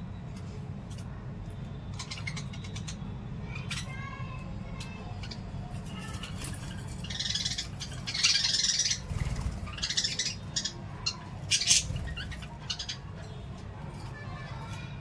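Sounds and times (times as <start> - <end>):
parrots chattering and squawking: 0.9 - 15.0.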